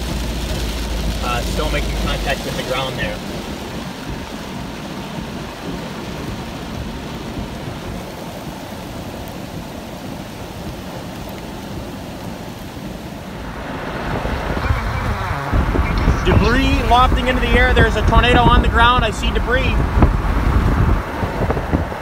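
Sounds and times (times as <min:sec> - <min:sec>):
heavy rain: 0:00.0 - 0:22.0
thunder rumble: 0:00.0 - 0:22.0
wind: 0:00.0 - 0:22.0.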